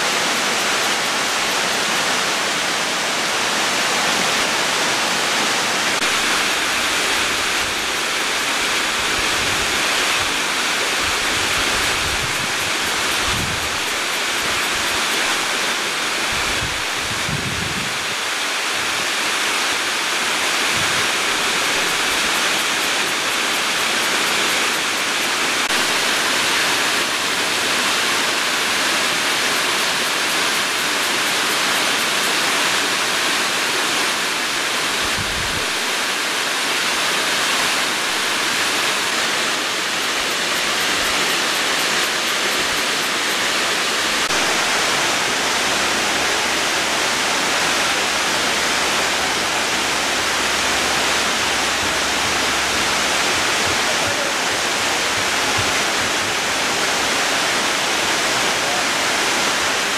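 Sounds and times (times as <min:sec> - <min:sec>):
falling water rushing: 0:00.0 - 0:59.9.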